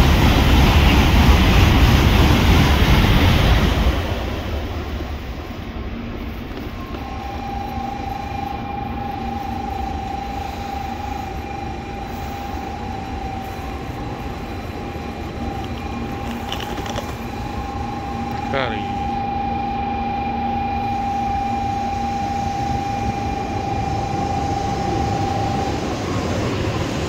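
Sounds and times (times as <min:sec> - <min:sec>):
train rumble and hum: 0:00.0 - 0:27.0
train whine: 0:00.0 - 0:27.0.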